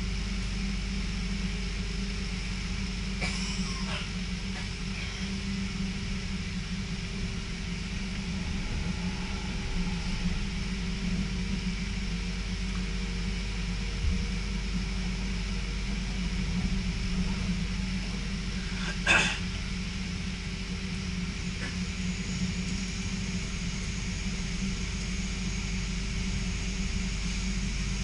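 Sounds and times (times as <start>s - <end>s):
train rumble from inside carriage: 0.0s - 28.0s.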